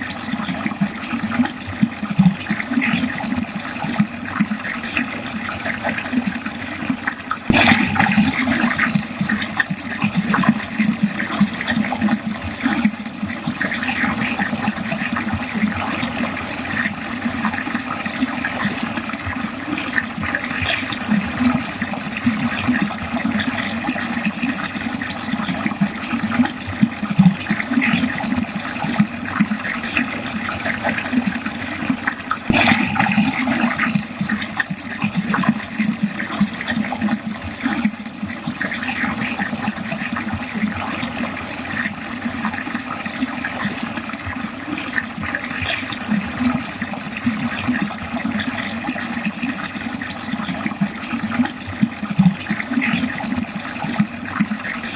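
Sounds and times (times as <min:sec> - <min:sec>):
water gurgling down a drain: 0:00.0 - 0:54.9.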